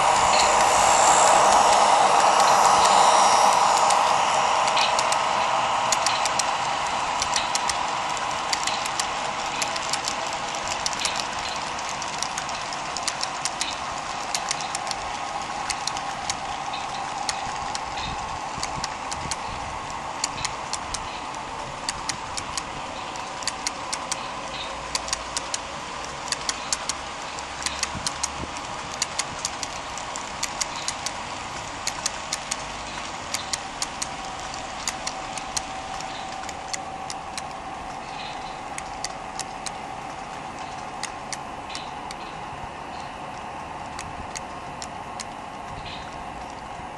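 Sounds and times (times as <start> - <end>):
model train wheels clicking: 0.0 - 46.9
whirring hum of train: 0.0 - 46.9.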